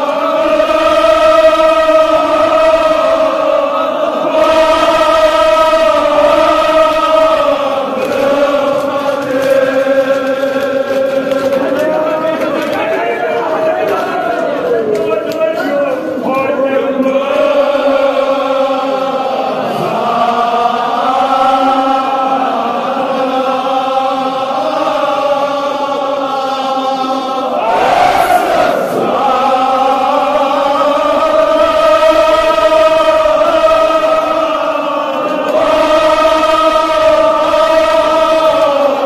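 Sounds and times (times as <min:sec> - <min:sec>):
men chanting in unison: 0:00.0 - 0:39.0.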